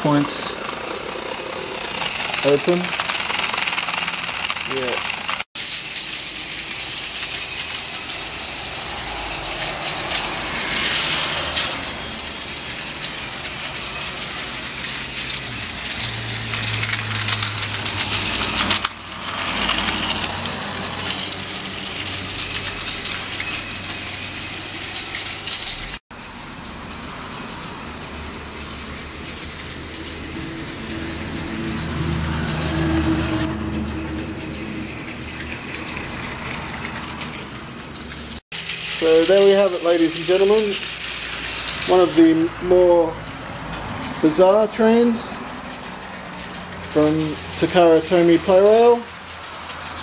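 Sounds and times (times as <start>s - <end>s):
toy trains rattling on plastic track: 0.0s - 50.0s.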